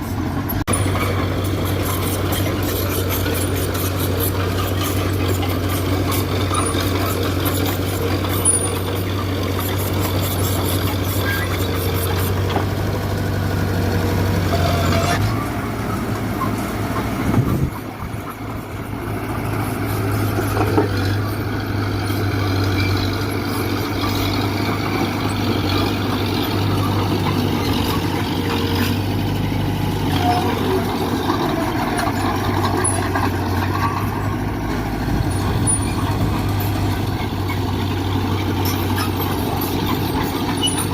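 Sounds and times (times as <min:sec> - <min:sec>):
diesel machinery engines running: 0:00.0 - 0:40.9.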